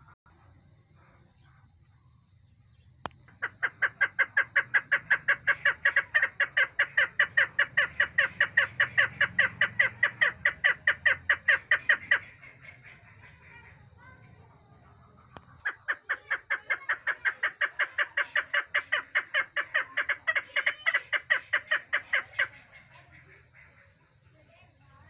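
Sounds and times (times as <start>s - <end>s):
partridge chuk calls: 1.0s - 25.0s.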